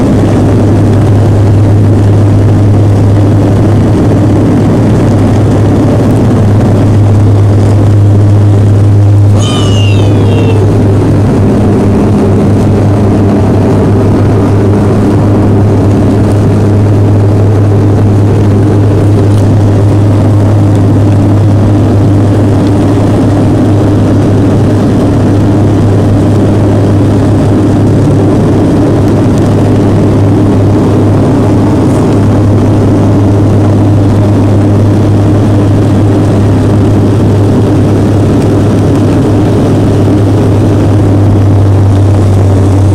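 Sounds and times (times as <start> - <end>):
turboprop cabin drone: 0.0 - 42.9.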